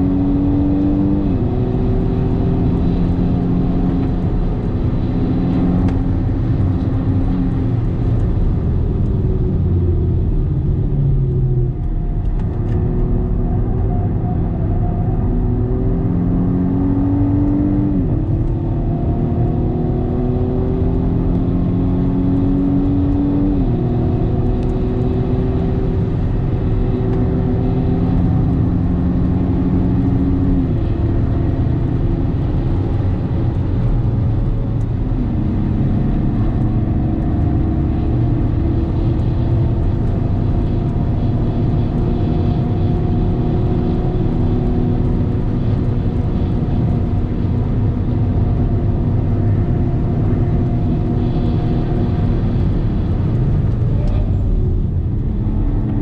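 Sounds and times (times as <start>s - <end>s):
car engine accelerating hard: 0.0s - 56.0s
tyre and road noise: 0.0s - 56.0s.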